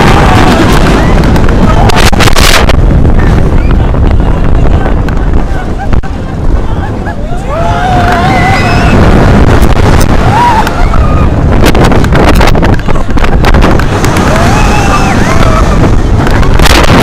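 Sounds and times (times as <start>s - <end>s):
roller coaster rumbling on track: 0.0s - 17.0s
wind buffeting microphone: 0.0s - 17.0s.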